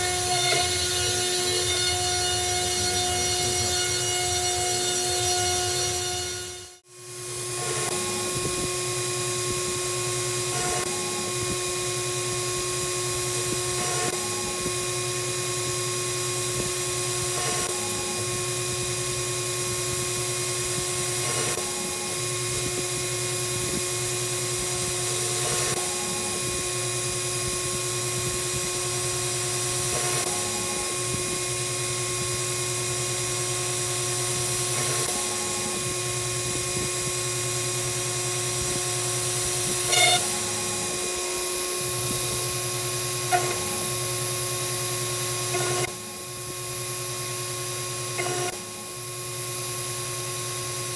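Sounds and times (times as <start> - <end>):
router spindle whine: 0.0 - 50.9.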